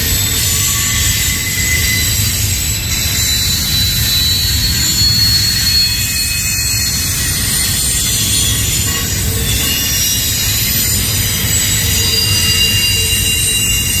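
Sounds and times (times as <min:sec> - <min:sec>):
high wheel squeal: 0:00.0 - 0:14.0
train wheels rumbling on rail: 0:00.0 - 0:14.0.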